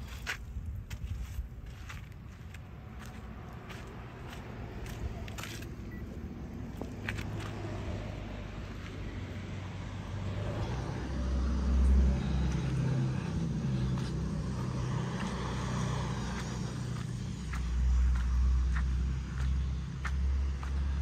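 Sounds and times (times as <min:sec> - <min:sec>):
vehicle engine running: 0:01.6 - 0:21.0.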